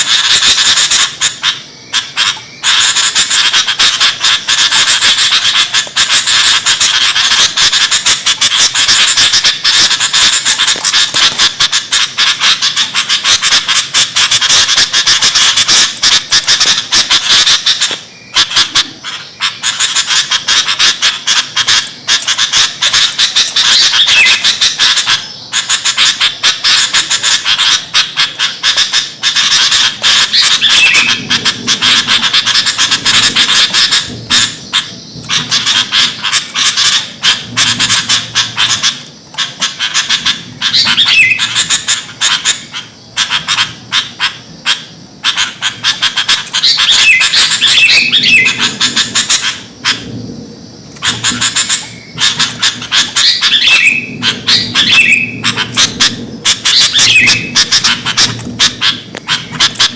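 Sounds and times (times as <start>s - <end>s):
bulbuls chattering: 0.0s - 59.9s.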